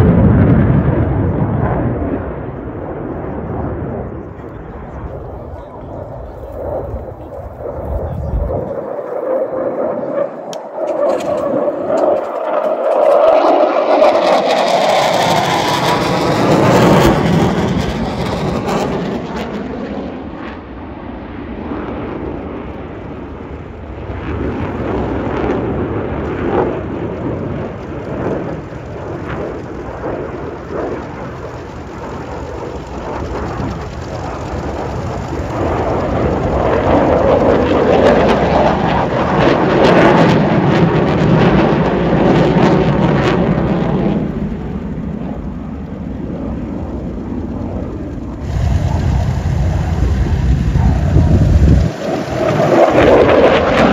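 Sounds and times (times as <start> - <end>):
fighter jets roaring overhead: 0.0 - 53.9.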